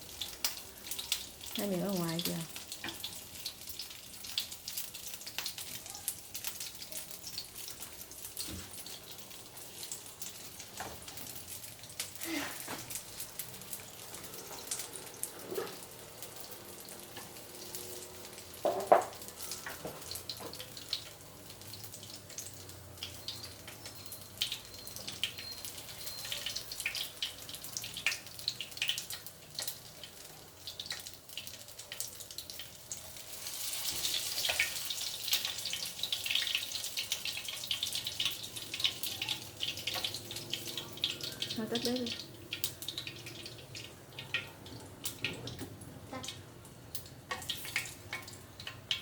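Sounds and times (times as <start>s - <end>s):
tofu frying in oil: 0.0s - 49.0s.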